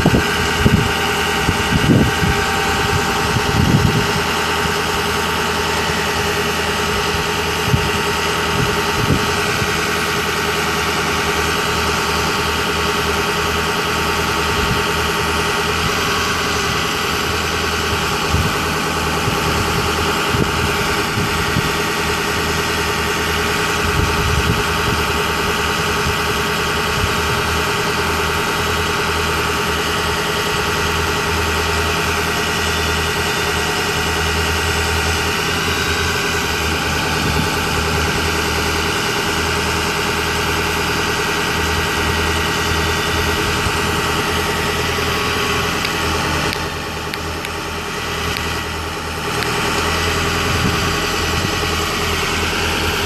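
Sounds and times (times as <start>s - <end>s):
diesel engine idling: 0.0s - 53.0s
hydraulic boom hum: 0.0s - 53.0s.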